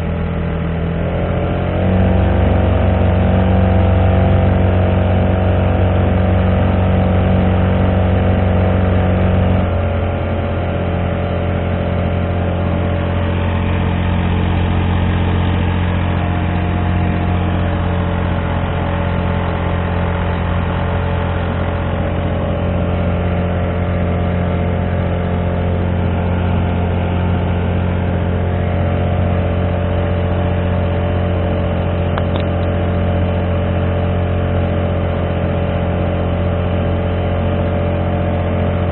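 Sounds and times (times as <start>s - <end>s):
four-stroke boat engine running: 0.0s - 38.9s.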